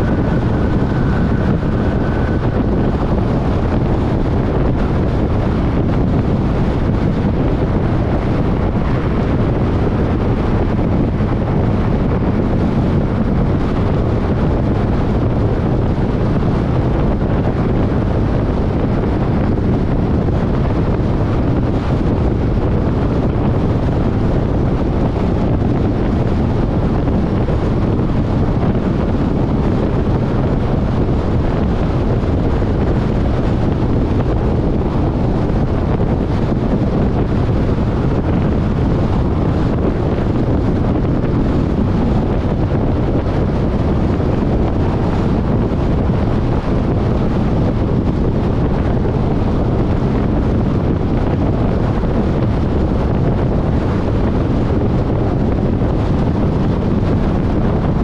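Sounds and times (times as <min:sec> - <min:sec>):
car wind and road noise: 0:00.0 - 0:58.0.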